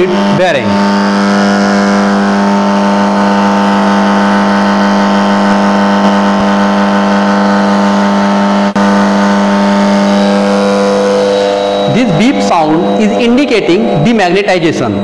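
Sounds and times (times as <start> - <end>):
induction heater humming: 0.0 - 15.0.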